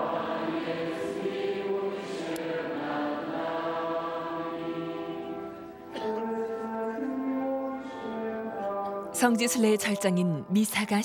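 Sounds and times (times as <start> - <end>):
crowd singing a hymn: 0.0 - 9.1.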